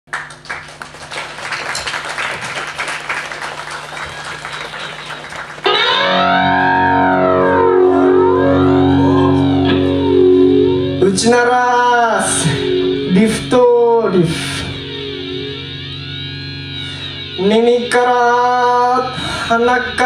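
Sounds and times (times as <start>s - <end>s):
distorted electric guitar: 3.6s - 20.0s.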